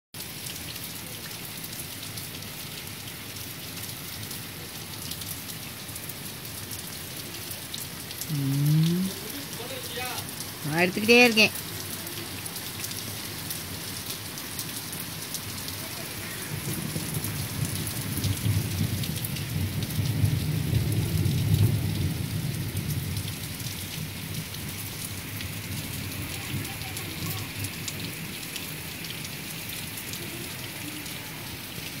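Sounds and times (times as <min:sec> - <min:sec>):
heavy rain on roofs and plants: 0:00.1 - 0:32.0.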